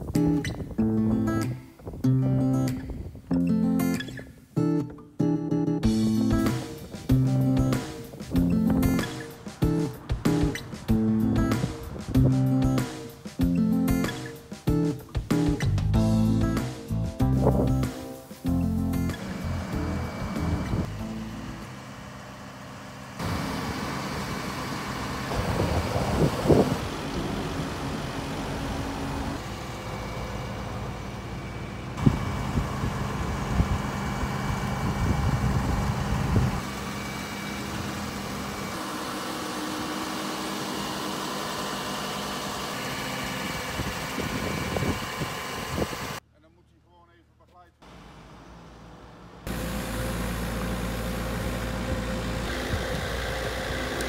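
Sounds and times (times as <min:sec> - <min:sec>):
diesel engine running: 0:05.8 - 0:14.1, 0:15.2 - 0:46.2, 0:47.8 - 0:54.0.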